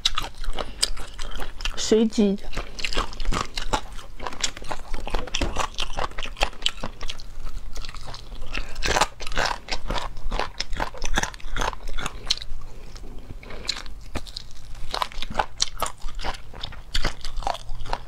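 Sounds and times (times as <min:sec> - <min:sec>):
person crunchy chewing: 0:00.0 - 0:01.8, 0:02.4 - 0:18.0.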